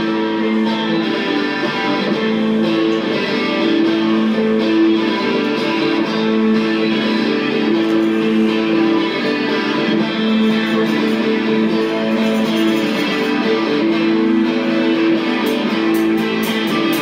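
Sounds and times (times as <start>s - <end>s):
electric guitar held notes: 0.0s - 17.0s
live rock band playing: 0.0s - 17.0s.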